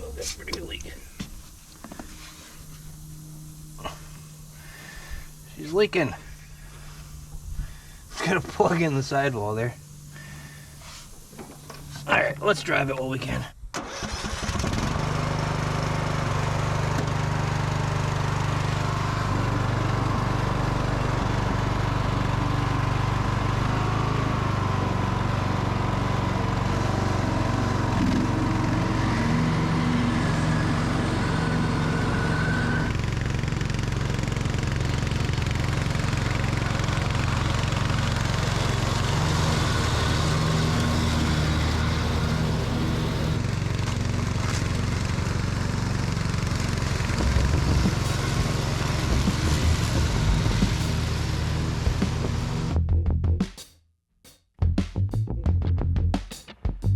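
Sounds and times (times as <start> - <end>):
riding lawn mower engine running: 0.0 - 52.8.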